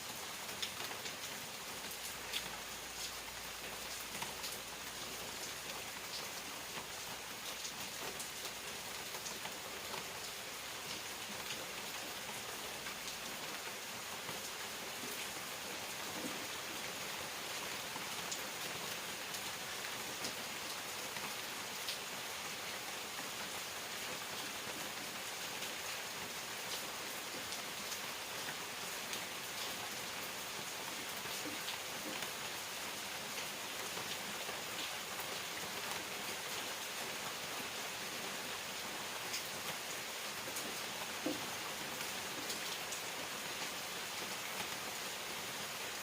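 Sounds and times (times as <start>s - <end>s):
raindrops ticking on surfaces: 0.0s - 46.0s
steady rain hiss: 0.0s - 46.0s.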